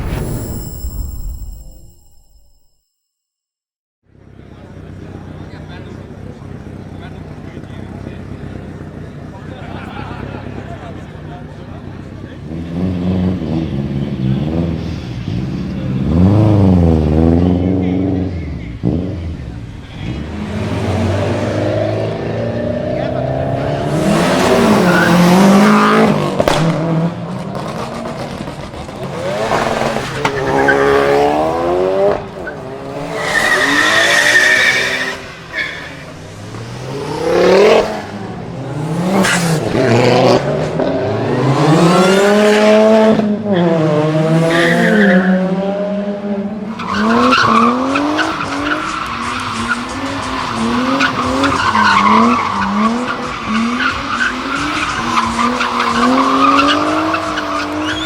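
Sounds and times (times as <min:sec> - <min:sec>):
car engines revving: 0:04.1 - 0:58.0.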